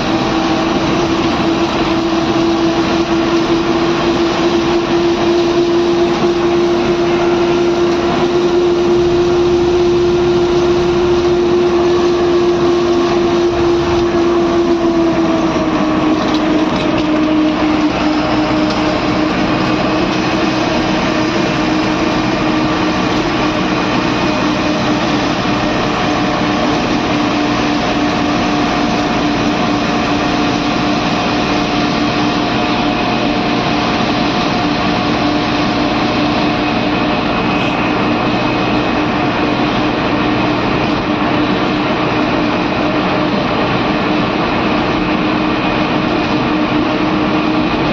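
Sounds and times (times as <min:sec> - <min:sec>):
bus engine droning: 0:00.0 - 0:47.9
road and wind noise: 0:00.0 - 0:47.9.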